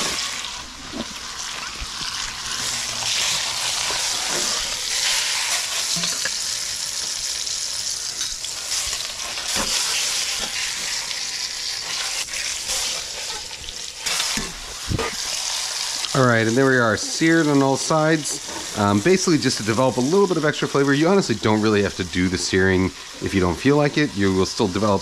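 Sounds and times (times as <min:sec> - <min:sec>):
meat sizzling in a pot: 0:00.0 - 0:25.0.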